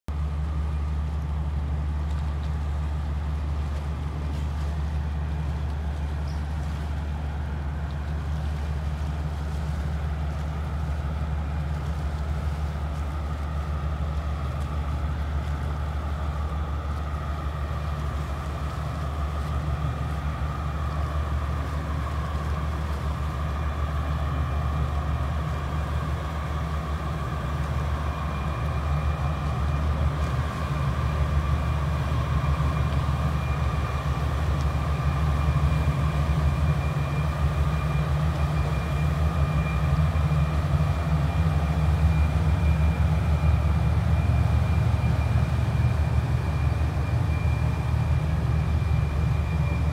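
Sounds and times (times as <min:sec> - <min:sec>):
faint engine whine: 0:00.0 - 0:49.9
boat engines droning: 0:00.1 - 0:49.9.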